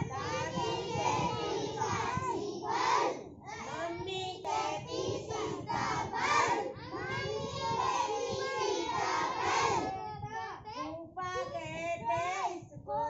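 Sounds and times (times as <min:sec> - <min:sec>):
children chanting a poem: 0:00.0 - 0:10.7.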